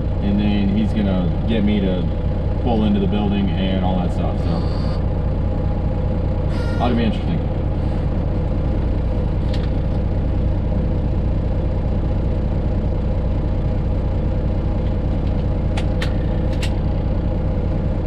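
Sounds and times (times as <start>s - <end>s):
truck diesel engine drone: 0.0s - 18.0s.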